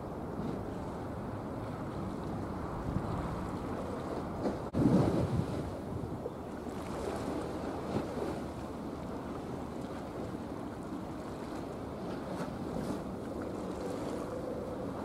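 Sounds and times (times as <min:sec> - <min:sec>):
wind rumbling on microphone: 0:00.0 - 0:15.0
sea water washing: 0:00.2 - 0:15.0.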